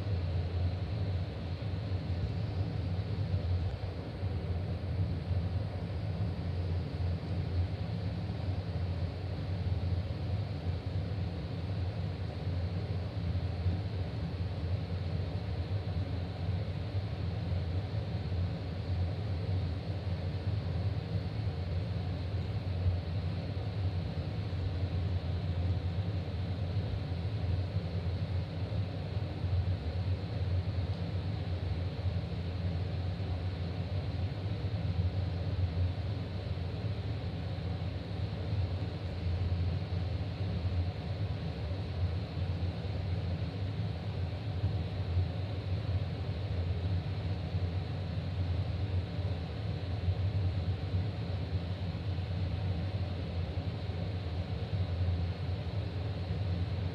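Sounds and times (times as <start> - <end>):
ventilation drone and hiss: 0.0 - 56.9.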